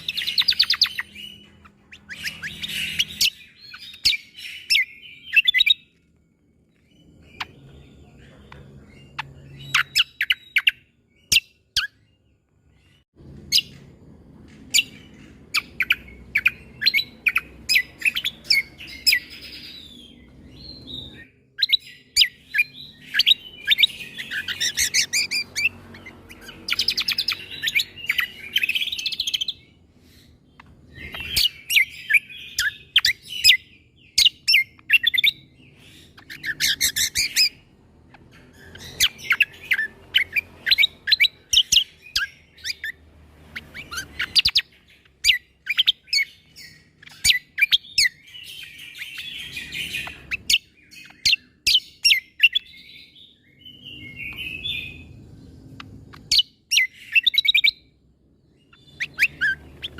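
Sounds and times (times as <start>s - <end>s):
bird singing sharp chip notes and trills: 0.0s - 43.0s, 43.6s - 59.9s.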